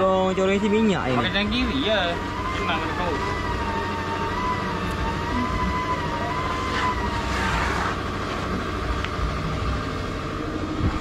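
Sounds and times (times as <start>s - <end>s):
wavering high-pitched tone: 0.0s - 8.8s
motor humming: 0.0s - 11.0s.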